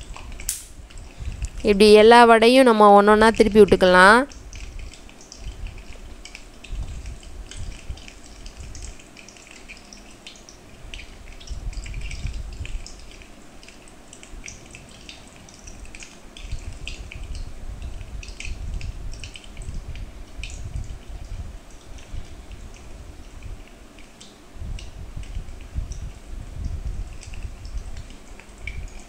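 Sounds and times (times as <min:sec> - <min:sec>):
oil sizzling and popping: 0:00.0 - 0:01.6, 0:03.6 - 0:29.0.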